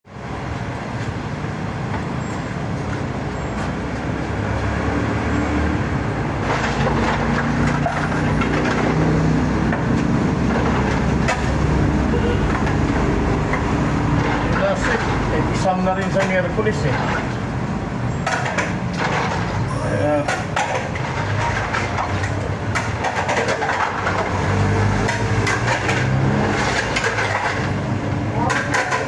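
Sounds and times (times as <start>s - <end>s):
engine humming: 0.1s - 29.0s.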